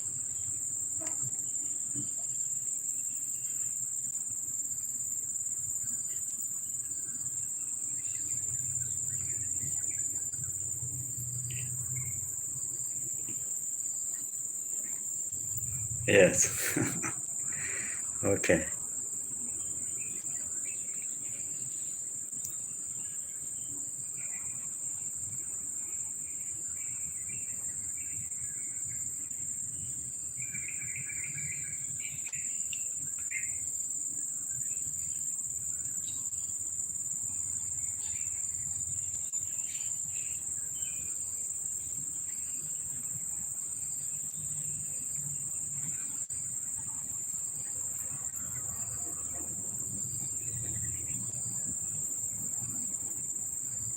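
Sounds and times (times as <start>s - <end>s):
insect chorus drone: 0.0s - 53.9s.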